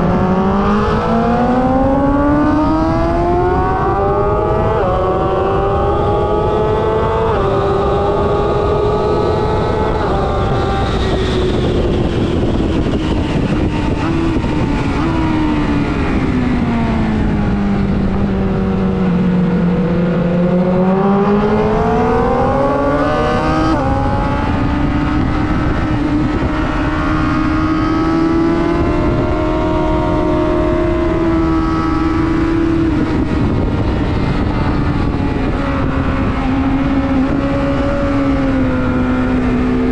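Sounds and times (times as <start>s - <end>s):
motorcycle engine running hard: 0.0s - 39.9s
wind noise: 0.0s - 39.9s.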